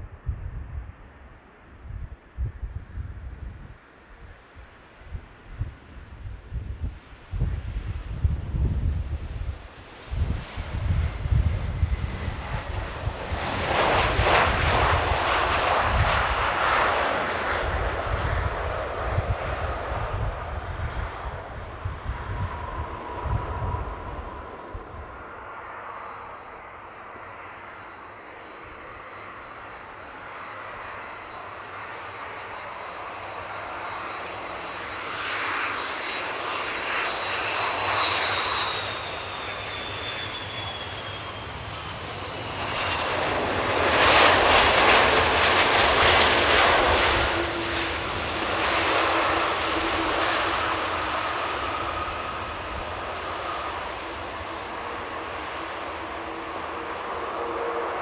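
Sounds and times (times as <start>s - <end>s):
jet engine whine: 0.1s - 58.0s
jet plane passing by: 0.5s - 58.0s.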